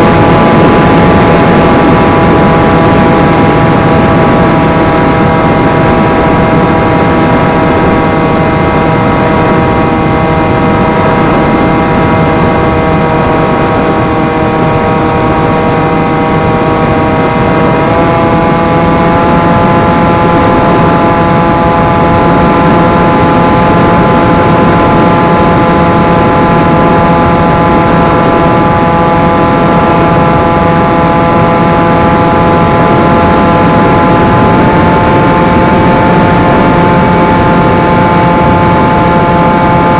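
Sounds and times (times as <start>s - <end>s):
electric motor and propeller whining: 0.0s - 39.9s
wind rush: 0.0s - 39.9s.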